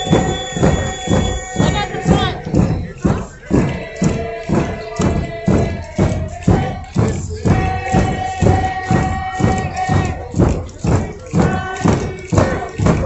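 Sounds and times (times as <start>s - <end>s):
frame drum beat: 0.0s - 13.0s.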